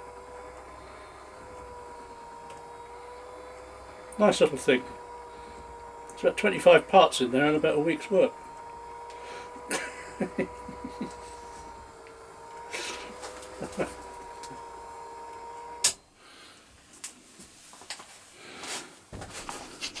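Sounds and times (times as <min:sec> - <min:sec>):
small electric motor humming: 0:00.0 - 0:16.1.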